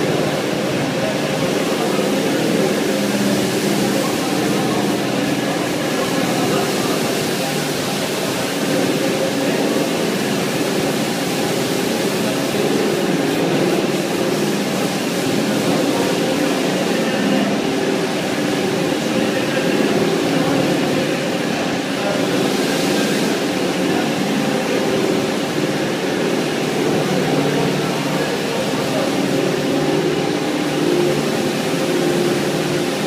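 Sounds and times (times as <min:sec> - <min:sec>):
carpet washing machine drone: 0:00.0 - 0:33.0.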